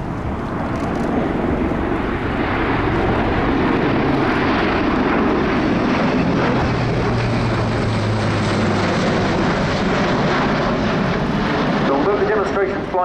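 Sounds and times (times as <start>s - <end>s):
tiltrotor aircraft in flight: 0.0s - 13.0s.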